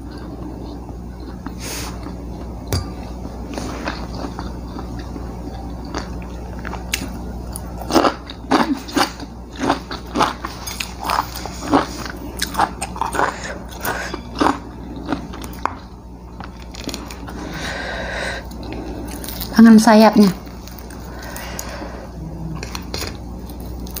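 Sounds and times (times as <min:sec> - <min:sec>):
person chewing crunchy food: 0:00.0 - 0:19.6, 0:20.4 - 0:24.0
steady low hum: 0:00.0 - 0:24.0.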